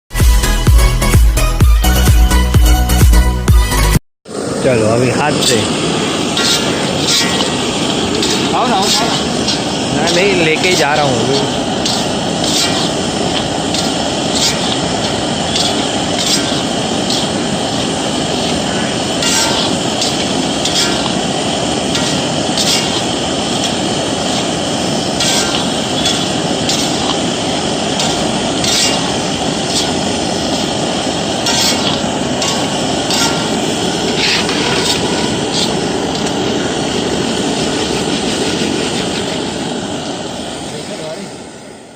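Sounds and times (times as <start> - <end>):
salt stirred and scraped in pan: 5.4 - 40.2.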